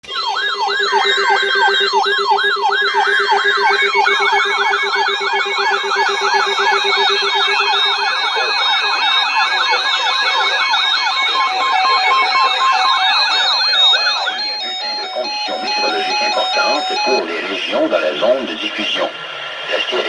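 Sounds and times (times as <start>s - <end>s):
electronic sirens wailing: 0.0s - 20.0s.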